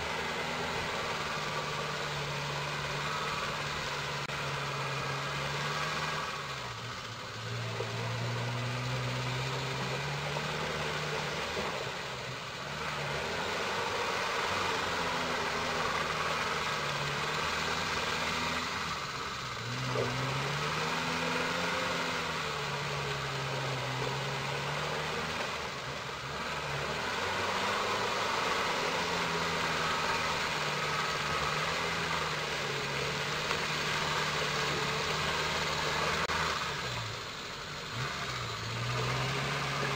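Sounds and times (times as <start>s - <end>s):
diesel engine revving under load: 0.0s - 39.9s.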